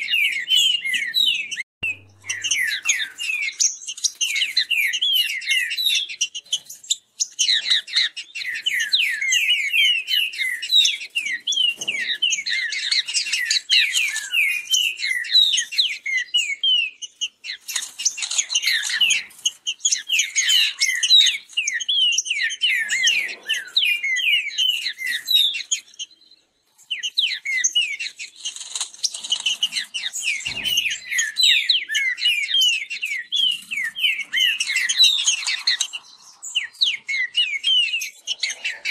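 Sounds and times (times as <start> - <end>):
birds singing whistled phrases: 0.0 - 38.9.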